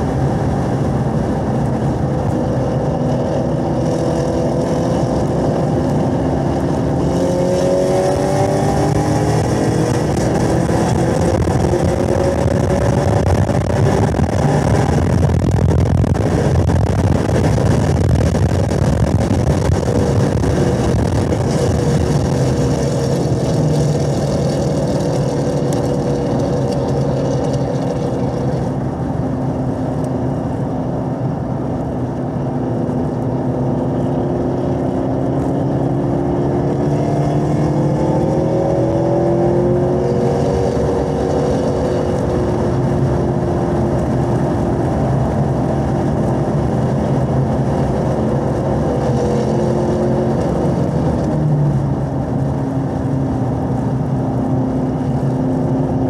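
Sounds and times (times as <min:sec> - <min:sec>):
car engine revving: 0:00.0 - 0:56.0
wind noise: 0:00.0 - 0:56.0.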